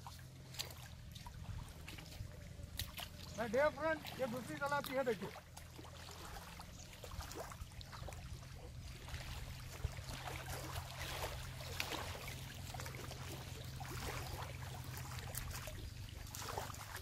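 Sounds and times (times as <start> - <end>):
steady low rumble: 0.0 - 4.5, 5.3 - 17.0
fish splashing: 0.0 - 17.0
small waves lapping: 0.0 - 17.0.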